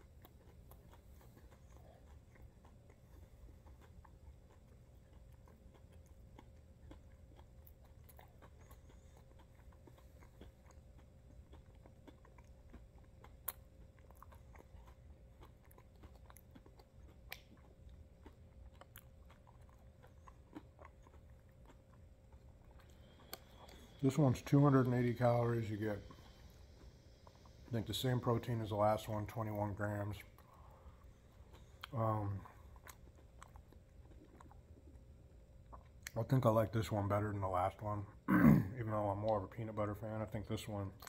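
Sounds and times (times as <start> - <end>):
faint chewing with soft crunches: 0.0 - 41.0.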